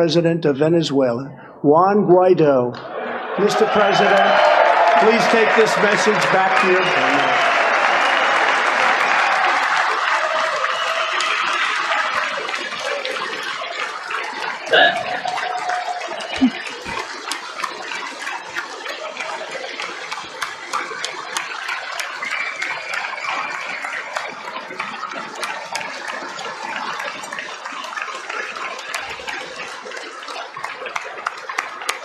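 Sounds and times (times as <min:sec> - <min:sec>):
cheers: 0:02.8 - 0:32.0
crowd applauding: 0:02.8 - 0:32.0.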